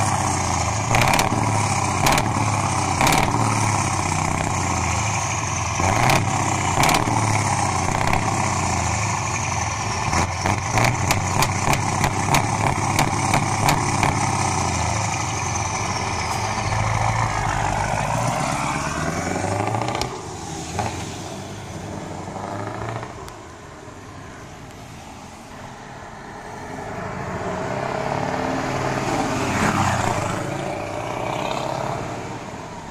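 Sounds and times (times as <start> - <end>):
trucks accelerating away: 0.0 - 24.0, 24.6 - 32.9
truck engines revving: 0.0 - 32.9.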